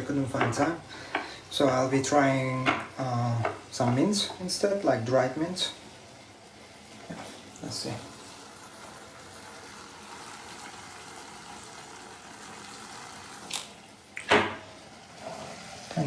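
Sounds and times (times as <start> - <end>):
vegetables simmering in water: 0.0 - 16.0.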